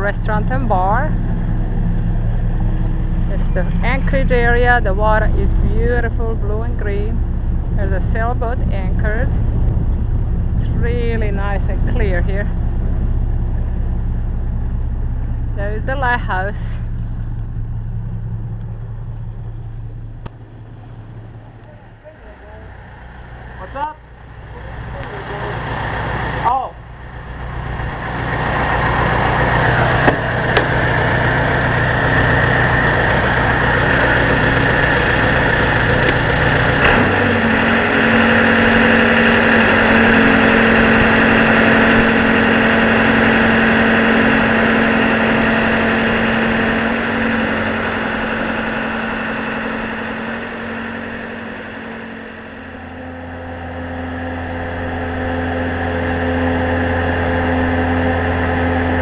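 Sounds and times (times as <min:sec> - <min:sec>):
boat engine humming: 0:00.0 - 0:59.0.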